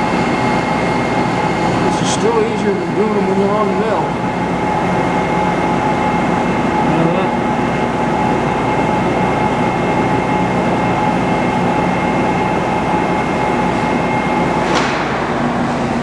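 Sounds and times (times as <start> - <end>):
metal lathe running: 0.0 - 16.0
steady whine: 0.0 - 16.0.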